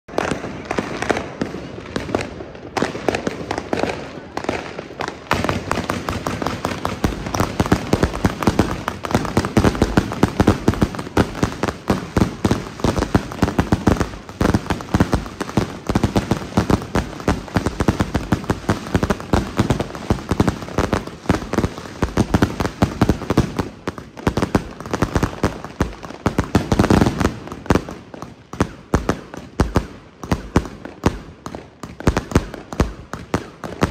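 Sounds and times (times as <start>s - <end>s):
firework crackling: 0.1s - 33.9s
rapid-fire firework bangs: 0.1s - 33.9s.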